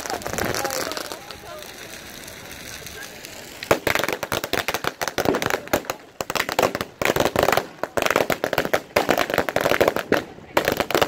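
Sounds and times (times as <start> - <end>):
firecrackers cracking: 0.0 - 11.0.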